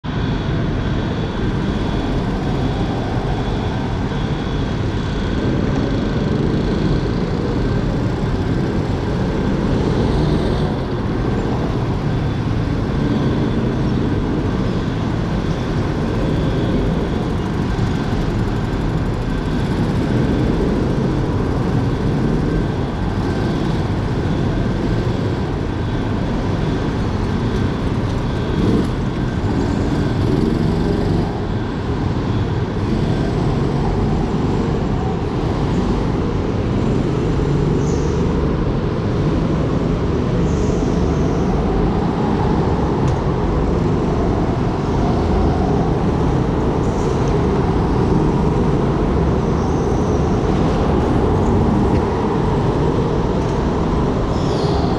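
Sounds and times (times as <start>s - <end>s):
go-kart engine and tyre noise: 0.0s - 54.9s.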